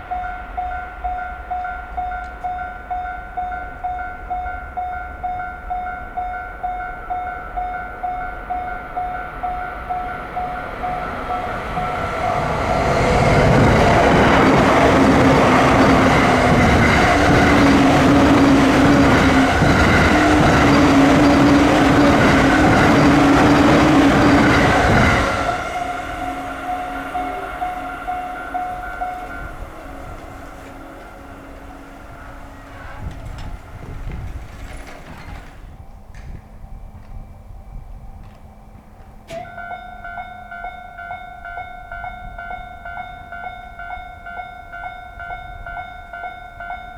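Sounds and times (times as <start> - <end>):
level crossing warning bell: 0.0 - 46.9
train rumbling over crossing: 0.0 - 46.9.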